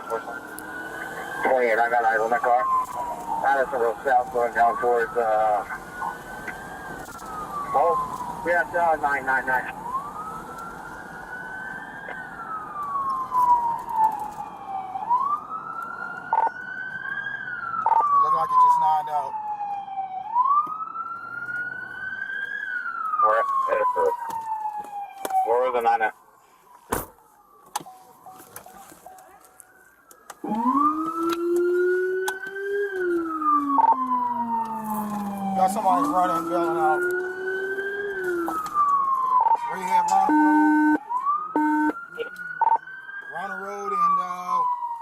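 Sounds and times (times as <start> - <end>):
police siren wailing: 0.0 - 45.0.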